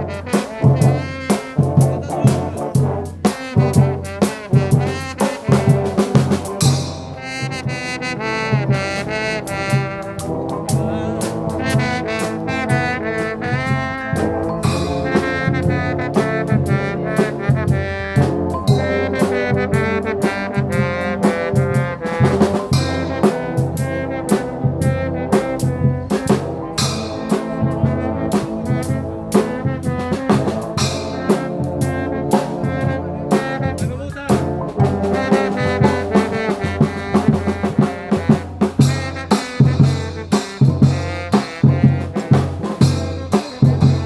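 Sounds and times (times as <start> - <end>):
drum strikes: 0.0 - 44.0
trombone ensemble playing: 0.0 - 44.0.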